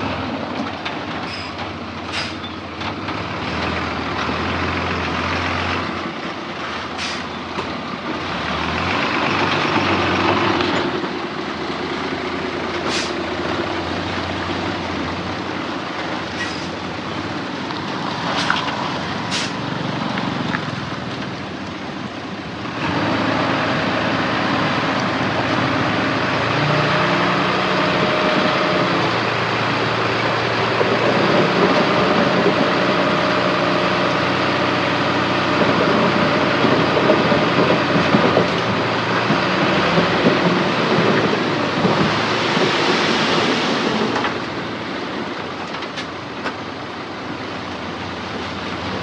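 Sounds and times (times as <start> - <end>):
heavy diesel machinery working: 0.0 - 49.0.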